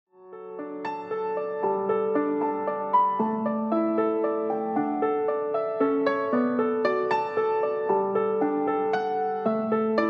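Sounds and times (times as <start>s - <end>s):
gentle piano melody: 0.2s - 10.0s.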